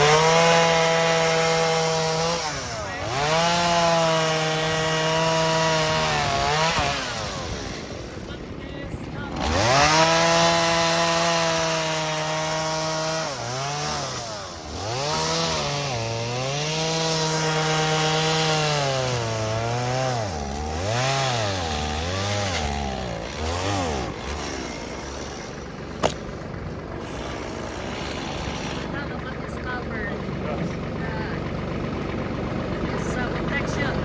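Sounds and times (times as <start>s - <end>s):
chainsaw cutting logs: 0.0s - 34.0s.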